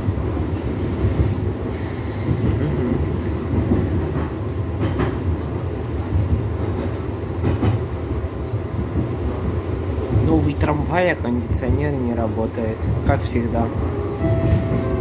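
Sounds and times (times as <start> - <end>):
tram wheels and motors rumbling: 0.0 - 15.0.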